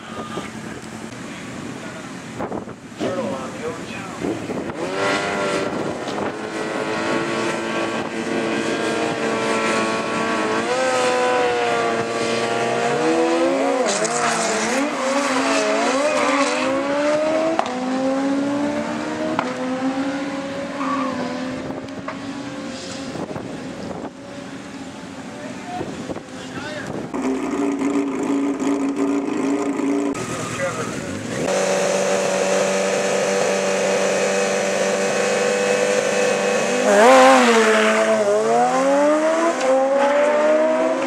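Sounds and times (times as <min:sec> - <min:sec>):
motorcycle engines revving: 0:00.0 - 0:41.0
motorcycles accelerating away: 0:04.5 - 0:24.4, 0:27.0 - 0:41.0.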